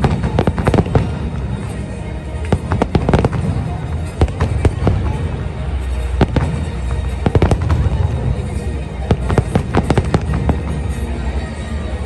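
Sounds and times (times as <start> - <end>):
fireworks cracks and bangs: 0.0 - 11.0.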